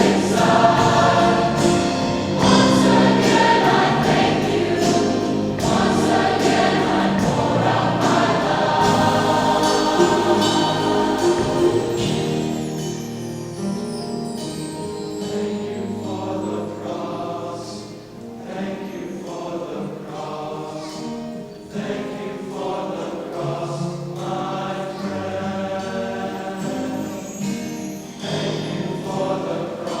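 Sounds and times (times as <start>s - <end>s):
choir singing: 0.0s - 13.8s, 14.7s - 30.0s.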